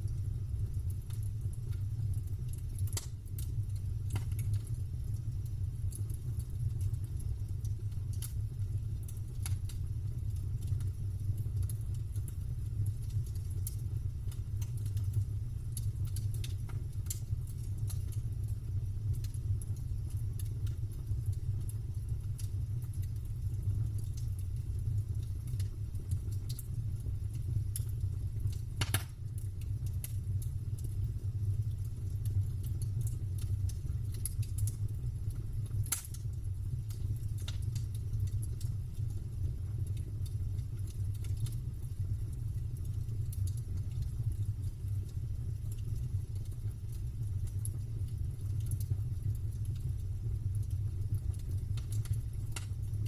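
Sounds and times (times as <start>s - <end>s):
campfire crackling and popping: 0.0s - 53.0s
low fire rumble: 0.0s - 53.0s.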